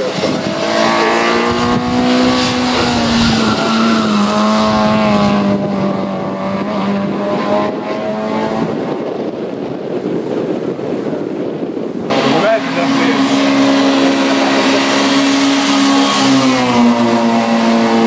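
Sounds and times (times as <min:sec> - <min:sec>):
race car engine revving: 0:00.0 - 0:09.2, 0:12.0 - 0:18.0
rough rushing noise: 0:00.0 - 0:18.0.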